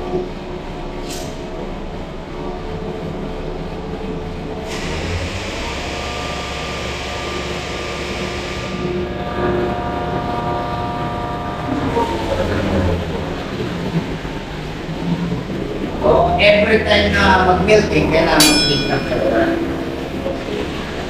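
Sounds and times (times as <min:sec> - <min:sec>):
milking machinery humming: 0:01.8 - 0:21.0.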